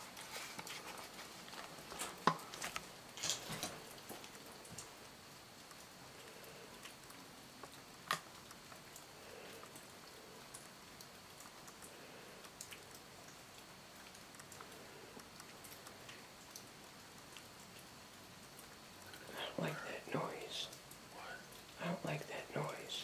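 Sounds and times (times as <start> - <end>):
faint ticks and crackles: 0.0 - 23.0.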